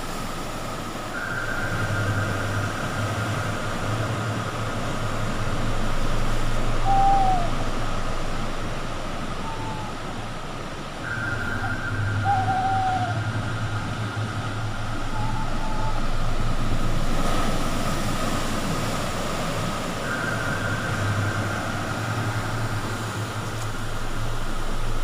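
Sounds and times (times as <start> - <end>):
low steady hum: 0.0 - 25.0
waves washing onto beach: 0.0 - 25.0.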